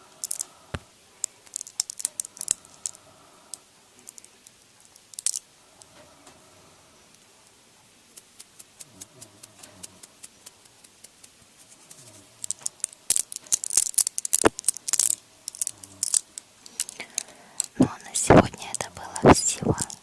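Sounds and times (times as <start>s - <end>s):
crinkling: 0.0s - 6.1s, 8.1s - 20.0s.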